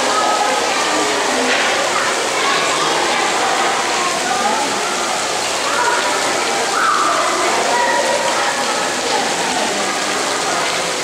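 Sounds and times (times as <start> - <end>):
faint indistinct voices: 0.0 - 11.0
running water rushing: 0.0 - 11.0.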